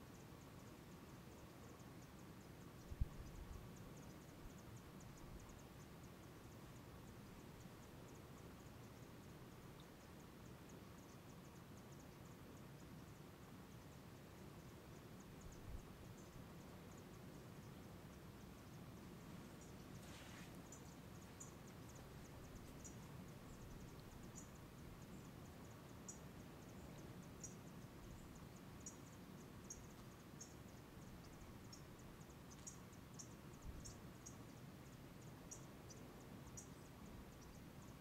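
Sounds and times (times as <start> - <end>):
insect chirps: 0.0 - 38.0
low hiss: 0.0 - 38.0.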